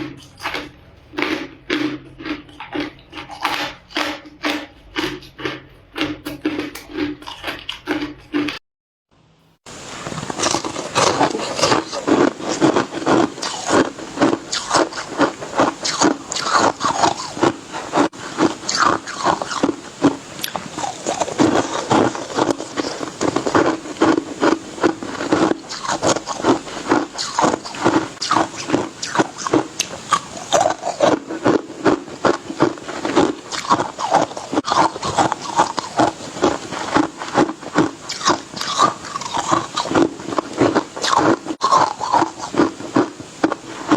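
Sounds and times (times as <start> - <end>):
ice being chewed: 0.0 - 8.6, 9.7 - 43.9.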